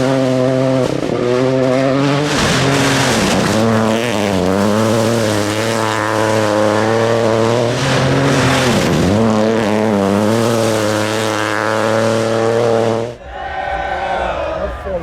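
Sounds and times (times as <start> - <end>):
car engine at high revs: 0.0 - 13.2.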